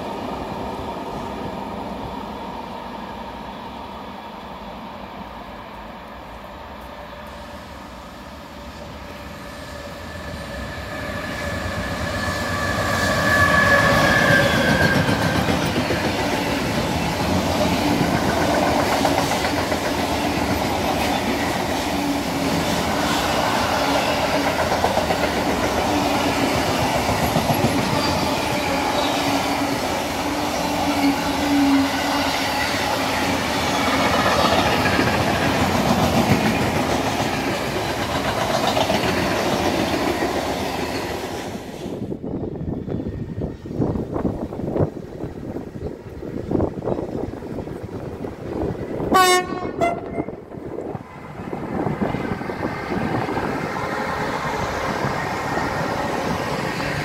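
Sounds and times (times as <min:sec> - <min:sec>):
brief train whine: 0:00.0 - 0:57.0
freight train rumbling past: 0:00.0 - 0:57.0.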